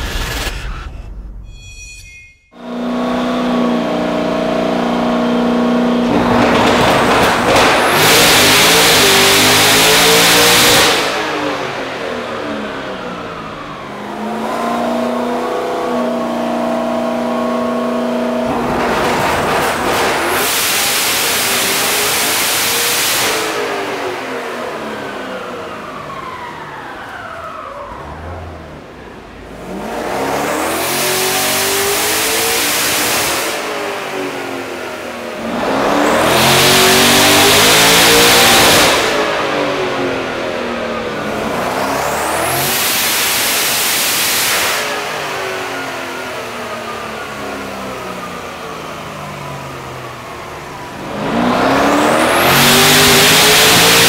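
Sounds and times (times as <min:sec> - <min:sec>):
car engine revving on dyno: 0:02.6 - 0:54.0.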